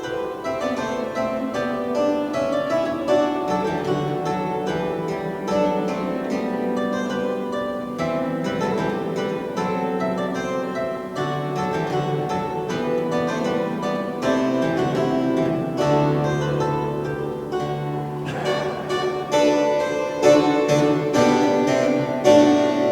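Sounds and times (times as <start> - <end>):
pipe organ playing: 0.0 - 22.9.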